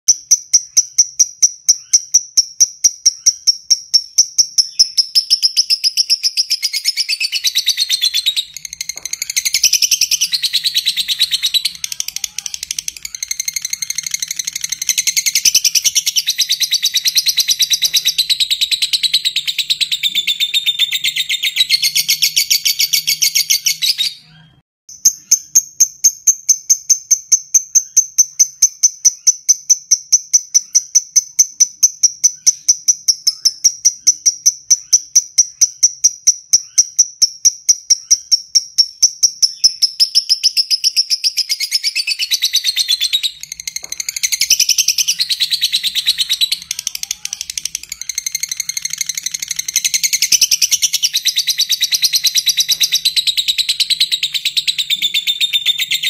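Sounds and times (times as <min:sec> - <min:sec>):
bird chattering trill: 0:00.1 - 0:24.3, 0:25.0 - 0:56.0.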